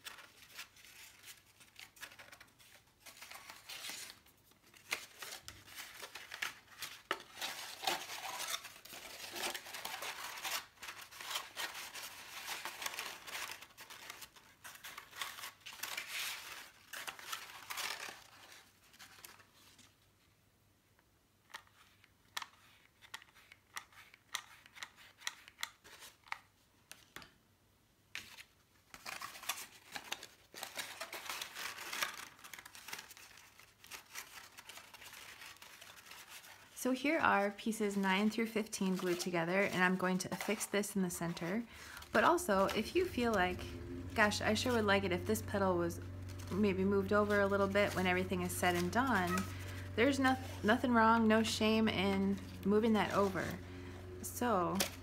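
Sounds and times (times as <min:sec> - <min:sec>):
stiff paper rustling and crinkling: 0:00.0 - 0:20.1, 0:21.5 - 0:27.1, 0:28.1 - 0:36.8, 0:37.4 - 0:55.0.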